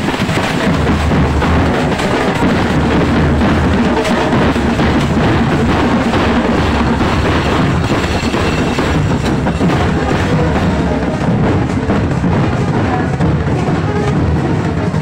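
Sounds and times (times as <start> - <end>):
marching drums beating: 0.0 - 15.0.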